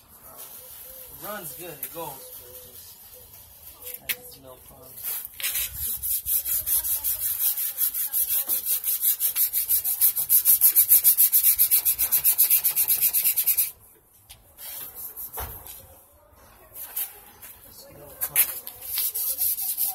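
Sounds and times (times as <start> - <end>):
sandpaper scuffing painted metal: 0.0 - 16.0, 16.7 - 19.9.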